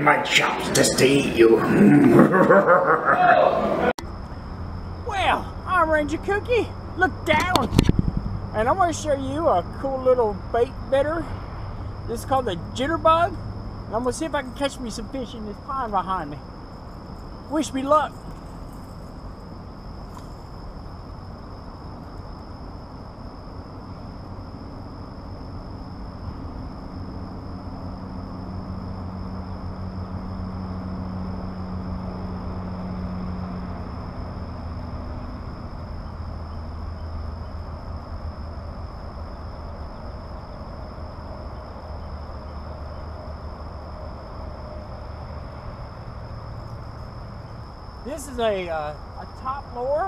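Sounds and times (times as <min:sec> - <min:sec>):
distant engine rumble: 0:00.0 - 0:50.0
high-pitched insect drone: 0:03.2 - 0:50.0.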